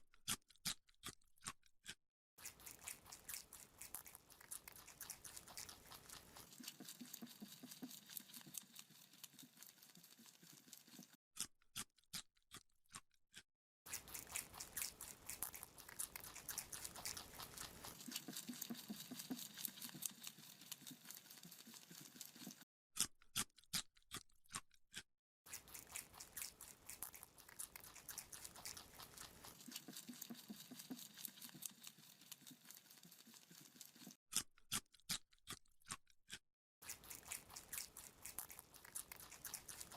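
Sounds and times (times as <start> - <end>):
rabbit crunching a carrot: 0.2 - 39.9.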